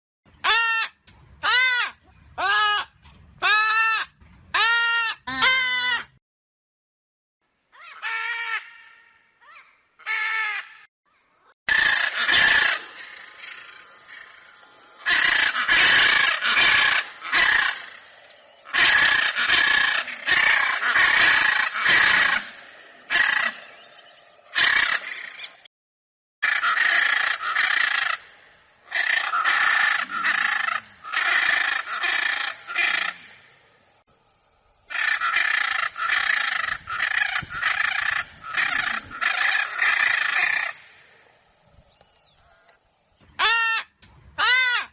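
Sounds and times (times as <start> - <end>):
macaws screeching: 0.4 - 6.1, 7.8 - 10.9, 11.7 - 23.8, 24.5 - 25.6, 26.4 - 33.4, 34.9 - 41.0, 43.4 - 44.9.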